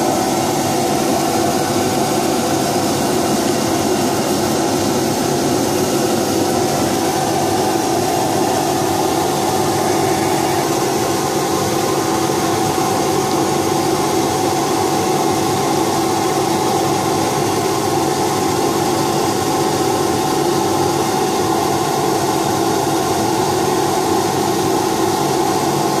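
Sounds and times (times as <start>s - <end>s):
laser cutting machine humming: 0.0s - 26.0s.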